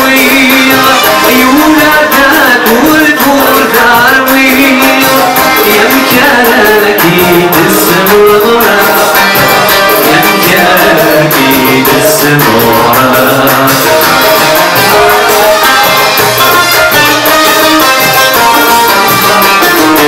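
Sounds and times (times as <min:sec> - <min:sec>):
man singing: 0:00.0 - 0:15.7, 0:16.9 - 0:20.0
hand percussion beat: 0:00.0 - 0:20.0
plucked lute: 0:00.0 - 0:20.0.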